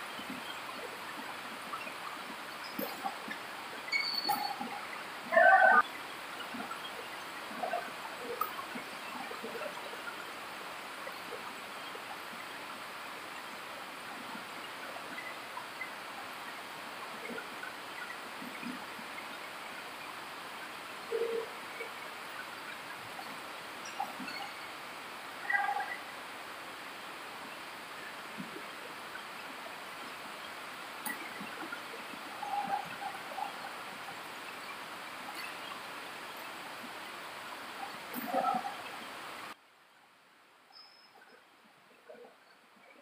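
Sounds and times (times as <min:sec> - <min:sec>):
indoor hall ambience hiss: 0:00.0 - 0:43.0.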